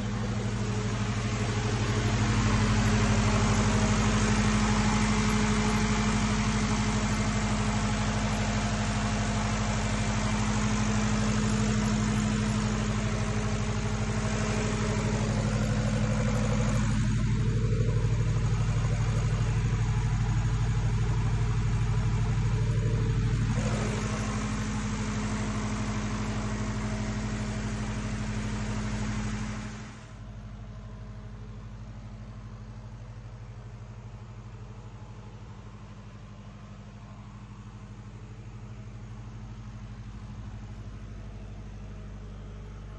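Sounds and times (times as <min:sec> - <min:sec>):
diesel generator running: 0:00.0 - 0:42.9.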